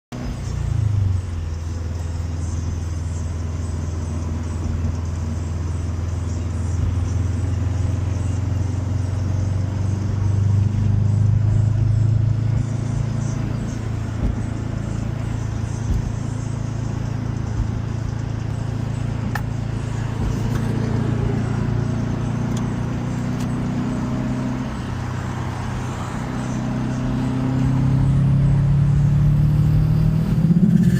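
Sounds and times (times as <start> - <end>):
car engine droning: 0.1 - 30.9.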